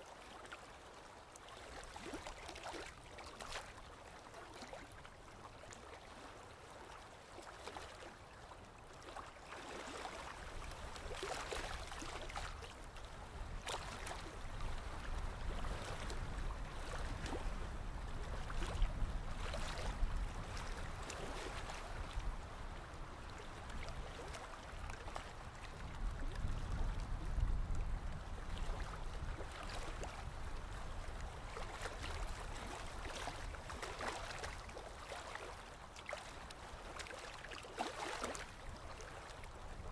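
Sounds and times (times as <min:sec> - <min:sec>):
sea waves washing and lapping: 0:00.0 - 0:39.9.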